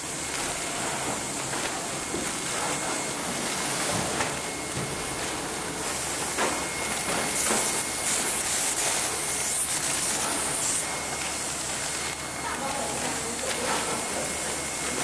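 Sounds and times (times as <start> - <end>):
band sealer sealing a bag: 0.0 - 15.0
machinery hiss: 0.0 - 15.0.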